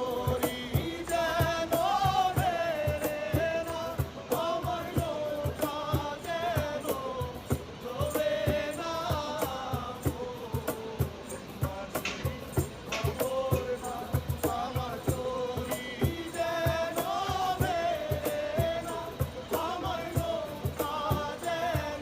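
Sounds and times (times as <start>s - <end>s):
song over drum beat: 0.0s - 22.0s.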